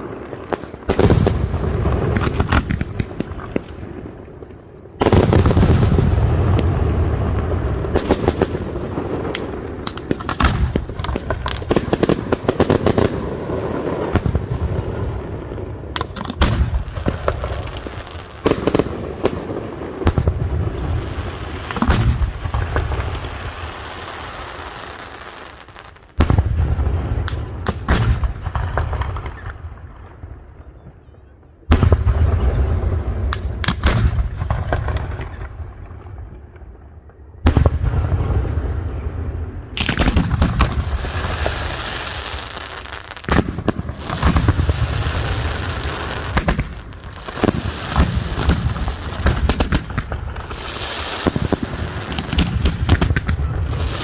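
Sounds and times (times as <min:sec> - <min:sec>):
firework crackling: 0:00.0 - 0:29.4, 0:39.8 - 0:54.0.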